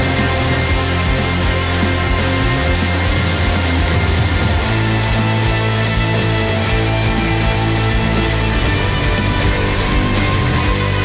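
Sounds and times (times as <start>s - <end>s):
drum beat: 0.0s - 11.0s
electric guitar: 0.0s - 11.0s.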